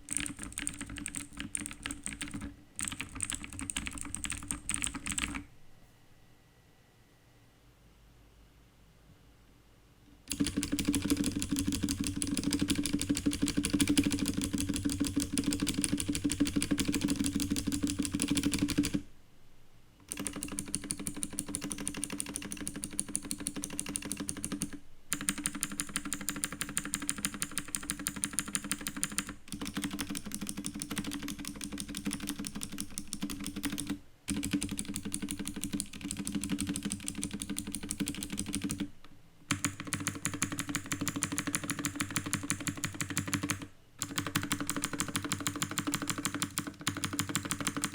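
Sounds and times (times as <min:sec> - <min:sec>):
fast mechanical keyboard typing: 0:00.0 - 0:05.5, 0:10.3 - 0:19.0, 0:20.1 - 0:38.9, 0:39.5 - 0:47.9.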